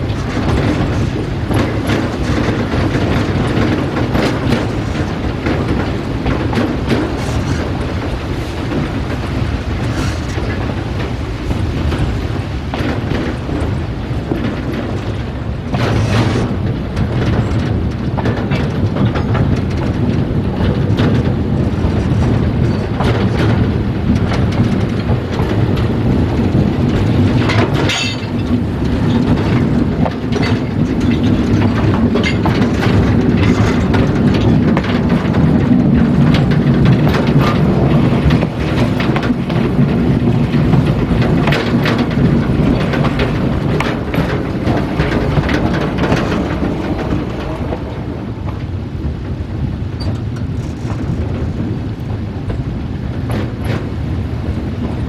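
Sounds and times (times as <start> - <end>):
steam train rumbling: 0.0 - 55.0
wheels clattering on rails: 0.0 - 55.0.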